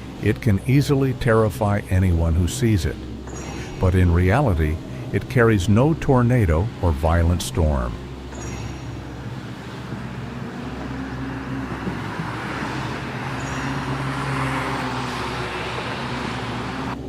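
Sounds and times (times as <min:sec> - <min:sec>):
road noise rushing hiss: 0:00.0 - 0:17.0
vehicle engine hum: 0:00.0 - 0:17.0.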